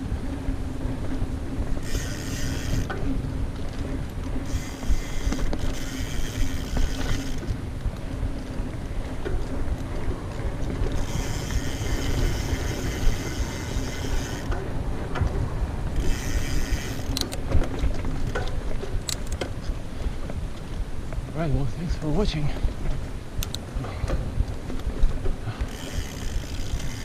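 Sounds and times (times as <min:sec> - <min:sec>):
bike tyres rumbling on dirt: 0:00.0 - 0:27.0.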